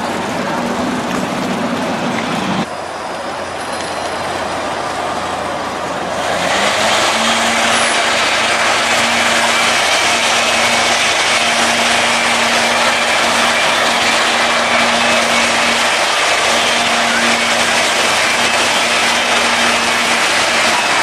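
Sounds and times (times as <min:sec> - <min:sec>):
streetcar wheels rushing: 0:00.0 - 0:21.0.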